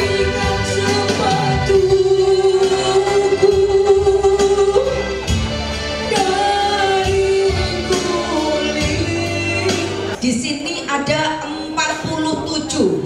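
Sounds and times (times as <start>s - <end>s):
woman singing into a microphone: 0.0s - 5.3s, 6.0s - 12.9s
amplified band accompaniment: 0.0s - 12.5s.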